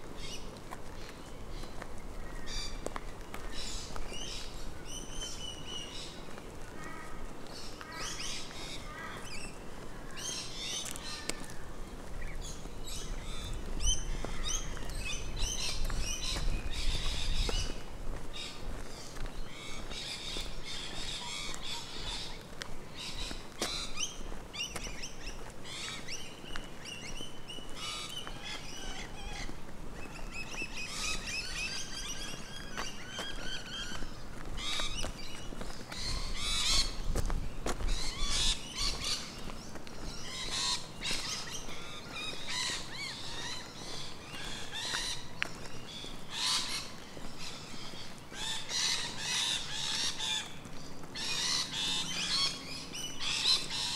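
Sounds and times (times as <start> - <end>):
birds chirping and trilling: 3.5 - 11.5, 12.2 - 53.9.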